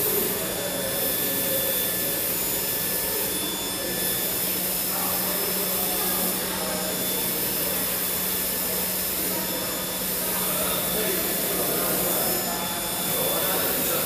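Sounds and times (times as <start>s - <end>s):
printer running with rushing hum: 0.0s - 14.0s.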